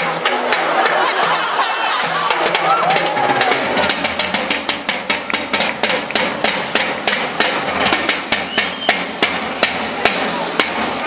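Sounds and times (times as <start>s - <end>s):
fast rhythmic sharp knocks: 0.0s - 1.6s, 2.3s - 11.0s.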